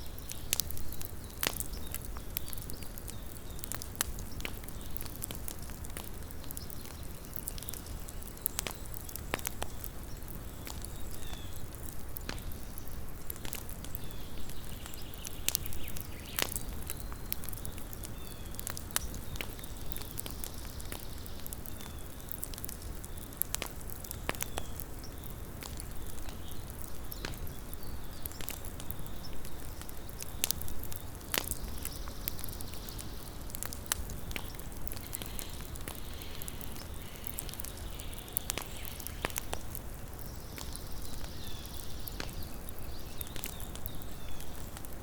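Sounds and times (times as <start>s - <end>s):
campfire crackling and popping: 0.0s - 45.0s
low hiss of burning wood: 0.0s - 45.0s.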